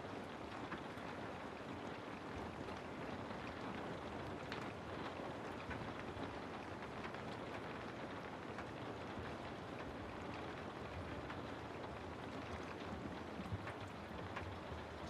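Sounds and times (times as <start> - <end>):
rain falling through trees: 0.0 - 15.0.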